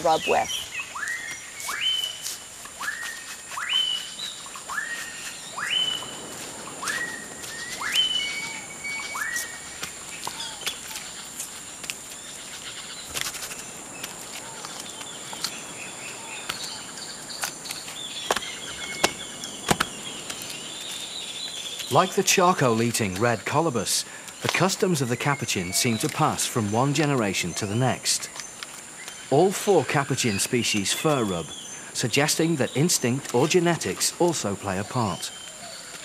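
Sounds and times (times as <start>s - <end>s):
bird calling: 0.0s - 36.0s.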